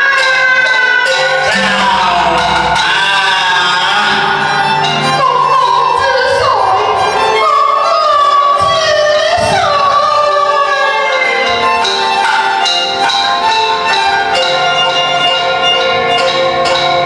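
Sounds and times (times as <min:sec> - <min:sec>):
opera music with sliding melody: 0:00.0 - 0:17.0.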